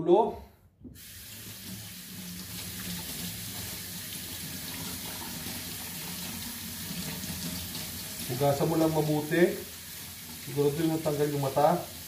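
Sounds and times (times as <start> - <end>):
water splashing into a steel sink: 1.0 - 12.0.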